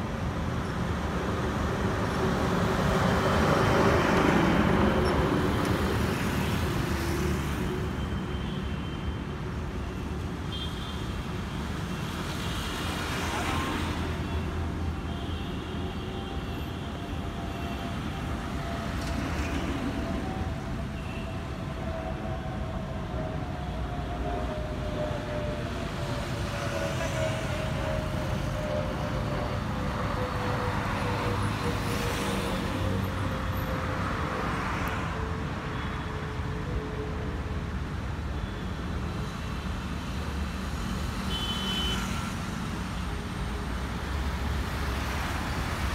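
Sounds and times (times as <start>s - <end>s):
road traffic hum: 0.0s - 45.9s.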